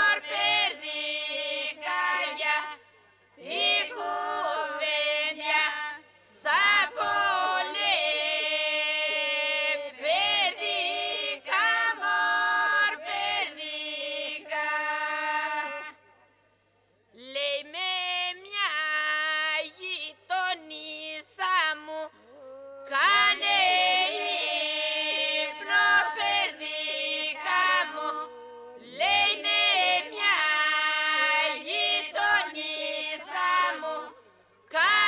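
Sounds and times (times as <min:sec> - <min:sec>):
women singing drone note: 0:00.0 - 0:16.2, 0:17.2 - 0:35.0.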